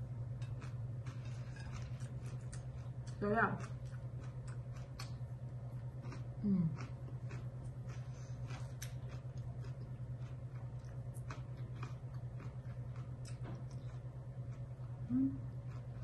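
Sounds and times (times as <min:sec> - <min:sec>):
steady low hum: 0:00.0 - 0:16.0
person chewing crunchy greens: 0:00.4 - 0:16.0.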